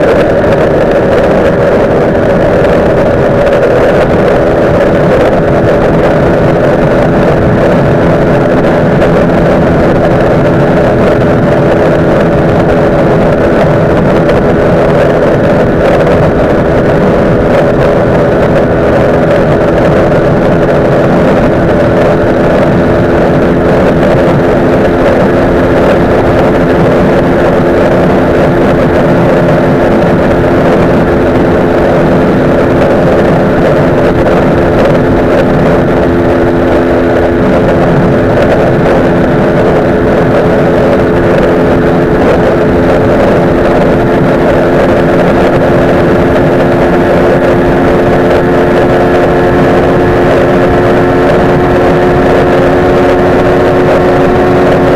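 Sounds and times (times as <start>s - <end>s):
motorcycle engine droning: 0.0s - 54.9s
wind on microphone: 0.0s - 54.9s.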